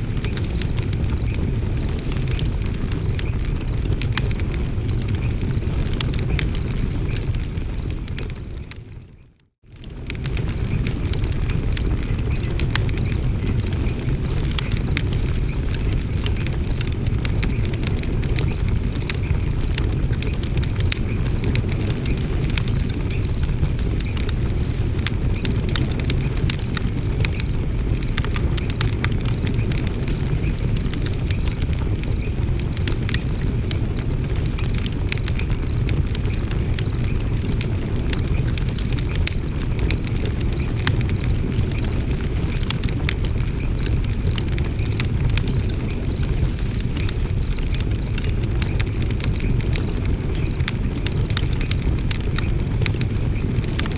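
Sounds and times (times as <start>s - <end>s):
low rumble of flames: 0.0s - 53.9s
wood fire crackling and popping: 0.0s - 53.9s.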